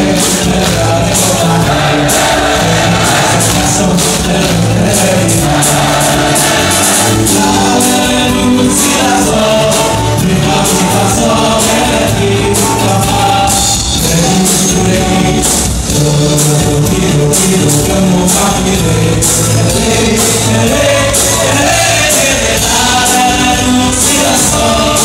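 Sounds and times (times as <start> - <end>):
loud music with singer: 0.0 - 25.0.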